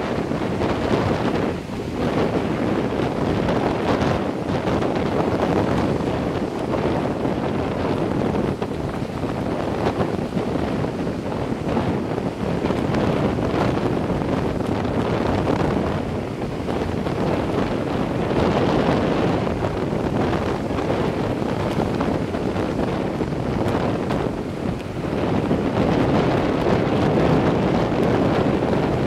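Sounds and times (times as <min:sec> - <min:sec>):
surf breaking: 0:00.0 - 0:29.0
wind buffeting microphone: 0:00.0 - 0:29.0.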